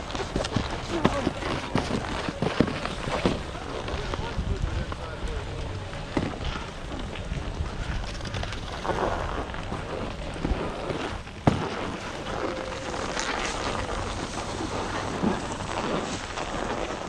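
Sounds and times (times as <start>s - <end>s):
skis scraping over snow: 0.0s - 17.0s
wind on microphone: 0.0s - 17.0s.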